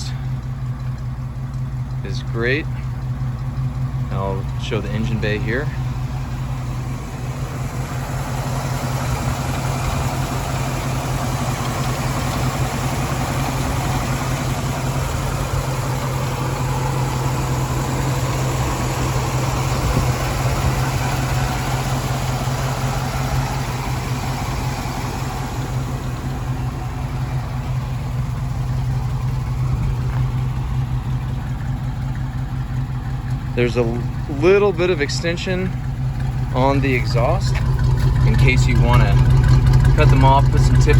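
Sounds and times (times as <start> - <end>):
engine idling with low rumble: 0.0 - 40.9.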